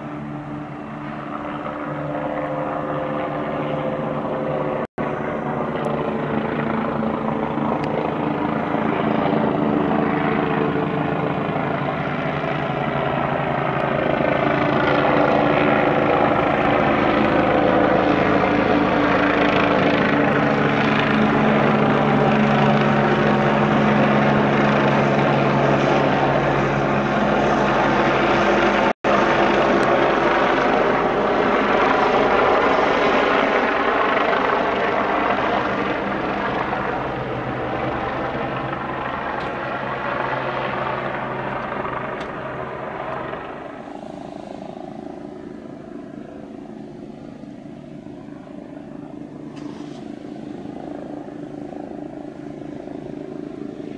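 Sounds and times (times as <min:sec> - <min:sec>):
helicopter rotor and engine: 0:00.0 - 0:53.9.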